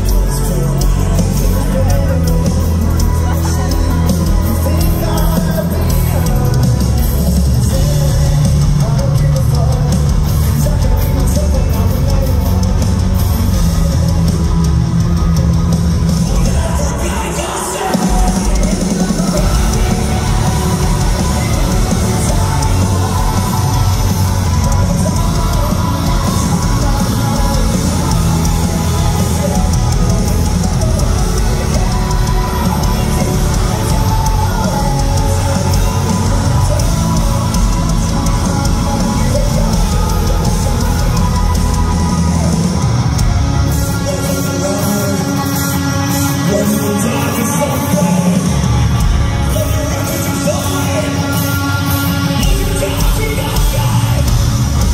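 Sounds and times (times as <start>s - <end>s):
bass guitar: 0.0s - 54.9s
distorted electric guitars: 0.0s - 54.9s
drum kit: 0.0s - 54.9s
shouted and sung vocals: 0.0s - 54.9s.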